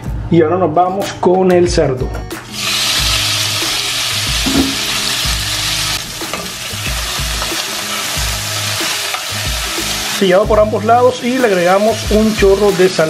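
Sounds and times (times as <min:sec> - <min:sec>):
pork sizzling in hot oil: 0:02.5 - 0:13.0.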